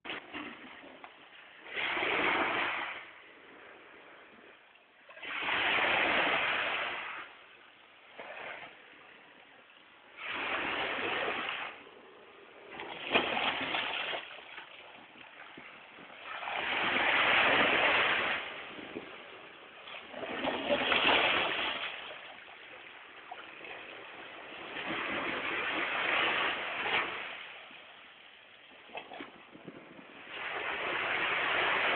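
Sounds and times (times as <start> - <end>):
sea waves breaking on beach: 0.1 - 9.4, 10.0 - 31.9.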